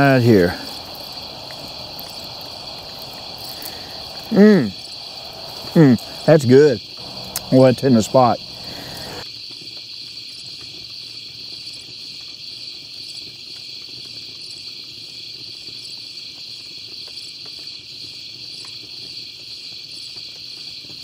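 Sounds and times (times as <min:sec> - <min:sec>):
faint campfire crackles: 0:00.0 - 0:21.0
night insects trilling: 0:00.0 - 0:21.0.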